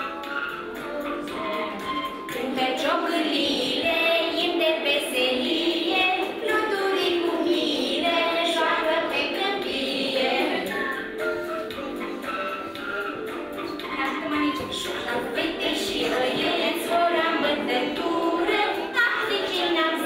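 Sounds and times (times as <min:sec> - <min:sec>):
children singing: 0:00.0 - 0:20.0
musical accompaniment: 0:00.0 - 0:20.0.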